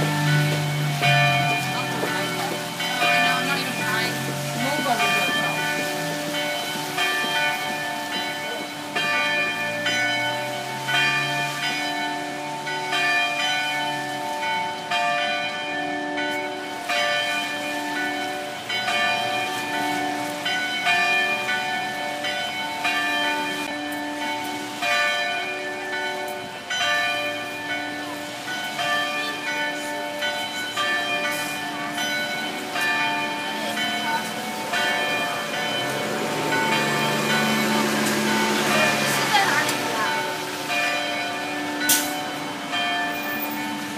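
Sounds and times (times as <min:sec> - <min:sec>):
church bells pealing: 0:00.0 - 0:43.9.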